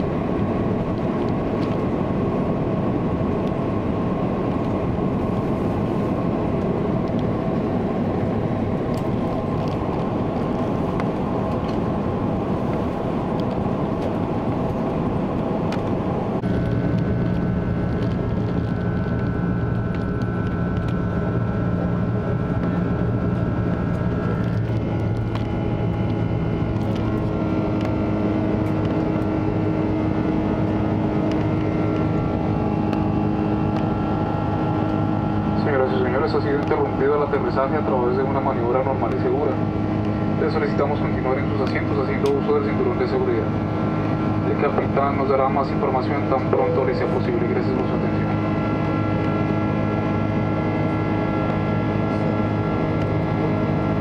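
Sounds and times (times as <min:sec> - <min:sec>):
airplane cabin roar: 0:00.0 - 0:54.0
steady engine tones: 0:00.0 - 0:54.0.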